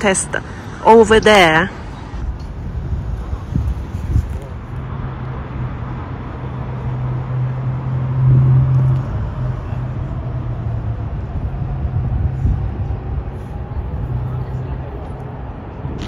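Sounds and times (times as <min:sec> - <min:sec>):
road traffic engine hum: 0:00.0 - 0:16.0.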